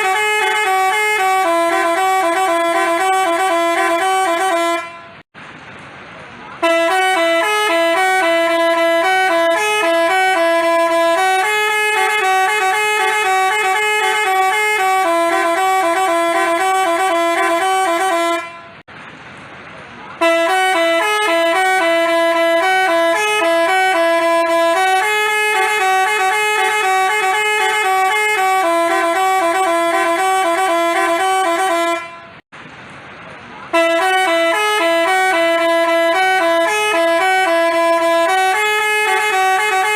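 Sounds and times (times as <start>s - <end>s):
multi-tone bus horn melody: 0.0s - 5.3s, 6.6s - 18.9s, 20.2s - 32.5s, 33.7s - 39.9s.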